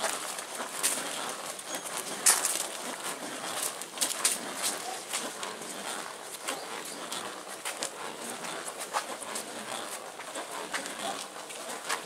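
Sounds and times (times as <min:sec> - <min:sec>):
wheelbarrow rattling: 0:00.0 - 0:12.0.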